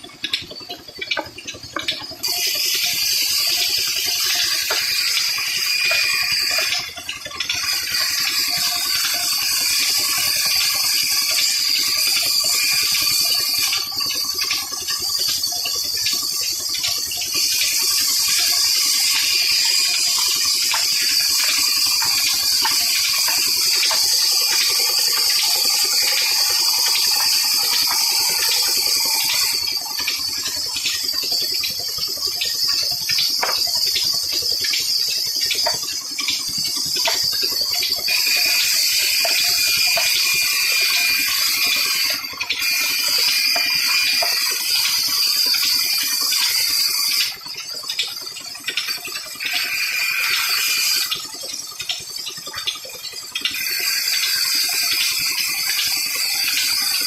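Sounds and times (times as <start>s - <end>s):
gushing water: 0.0s - 57.0s.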